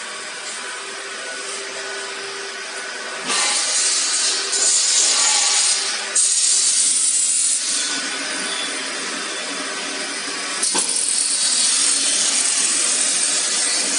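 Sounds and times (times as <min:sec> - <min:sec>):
harsh rasping machinery: 0:00.0 - 0:13.9.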